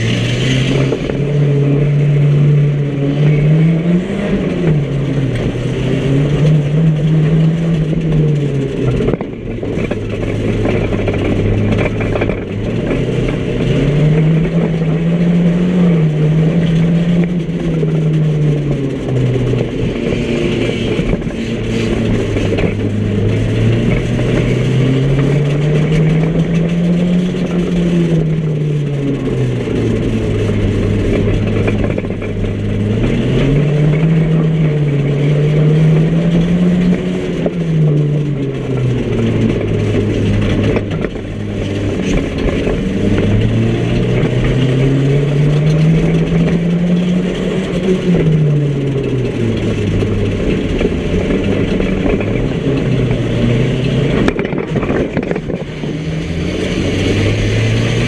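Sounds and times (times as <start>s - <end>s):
small car engine revving: 0.0s - 58.0s.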